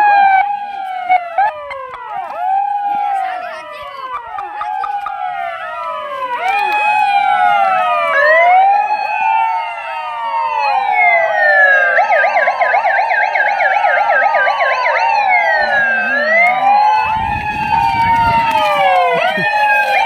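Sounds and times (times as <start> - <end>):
electronic sirens wailing: 0.0 - 20.0
siren rapid warbling yelp: 0.0 - 20.0.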